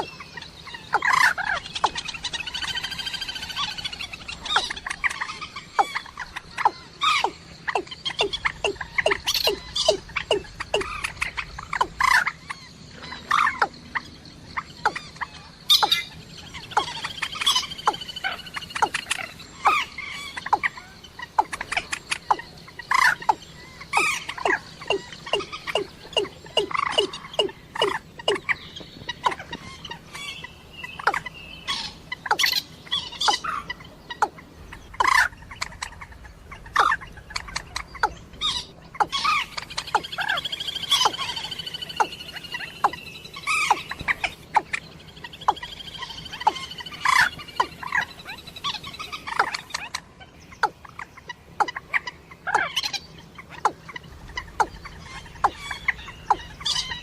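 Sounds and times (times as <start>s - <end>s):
water bird calls: 0.0s - 13.7s, 14.8s - 28.6s, 29.2s - 50.0s.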